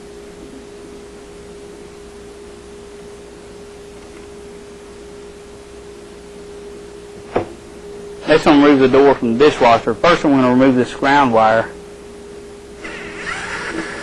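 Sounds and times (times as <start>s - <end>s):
steady single-pitched hum: 0.0s - 14.0s.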